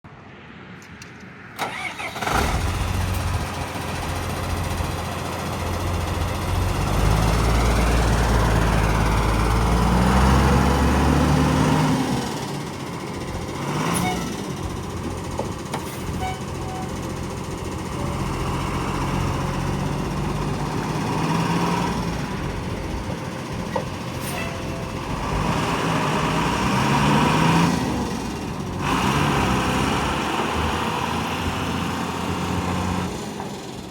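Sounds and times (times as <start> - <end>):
truck diesel engine revving: 1.6 - 33.9.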